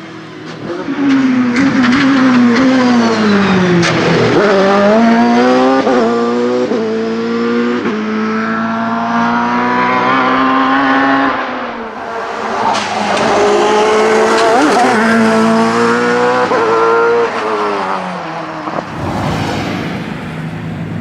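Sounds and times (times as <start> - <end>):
racing car engine accelerating: 0.5 - 21.0.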